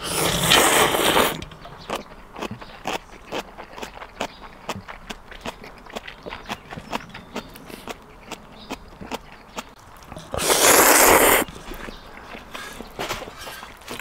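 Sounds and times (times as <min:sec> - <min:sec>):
chewing smacks: 0:00.0 - 0:14.0.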